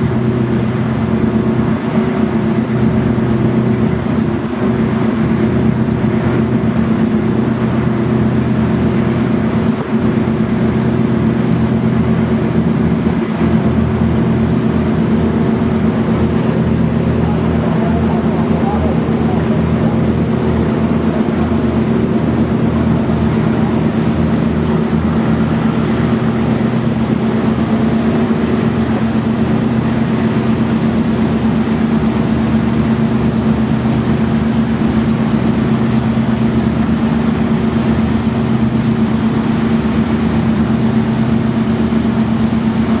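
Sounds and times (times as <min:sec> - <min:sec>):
boat engines droning: 0:00.0 - 0:43.0
wind and water noise: 0:00.0 - 0:43.0.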